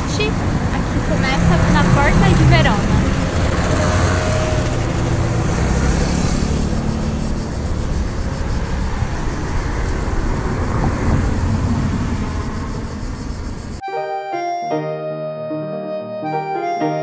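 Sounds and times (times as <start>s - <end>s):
passing road traffic: 0.0s - 14.5s.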